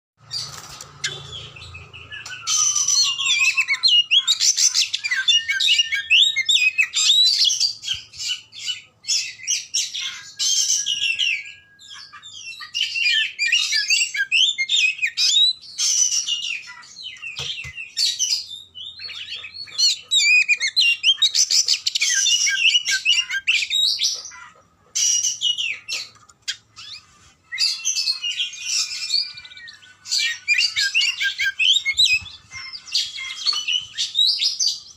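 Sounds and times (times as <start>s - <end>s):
songbird singing whistles and trills: 0.4s - 24.3s, 25.0s - 34.9s.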